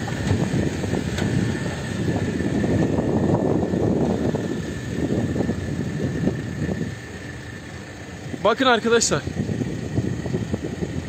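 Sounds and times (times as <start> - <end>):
truck road noise: 0.0 - 11.0
wind buffeting a microphone: 0.0 - 11.0.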